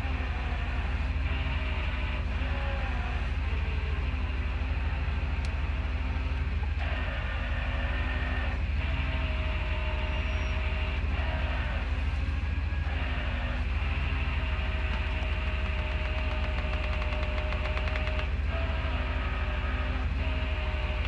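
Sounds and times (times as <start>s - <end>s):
truck engine running: 0.0s - 21.0s
winch whining: 0.0s - 21.0s.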